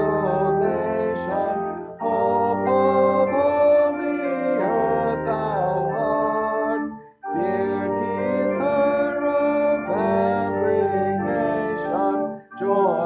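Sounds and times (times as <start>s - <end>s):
organ accompaniment: 0.0s - 13.0s
voices singing a hymn: 0.0s - 13.0s.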